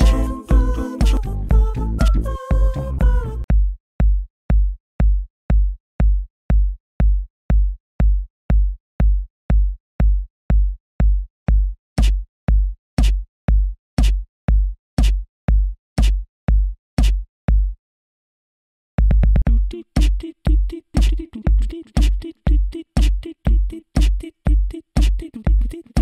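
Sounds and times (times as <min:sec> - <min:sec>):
electronic music kick drum beat: 0:00.0 - 0:17.8, 0:19.0 - 0:25.6.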